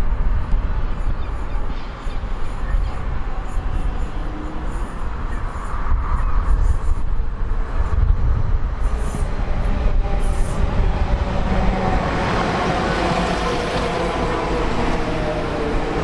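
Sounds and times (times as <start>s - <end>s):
diesel train engine rumble: 0.0s - 16.0s
train wheels on rails: 0.0s - 16.0s.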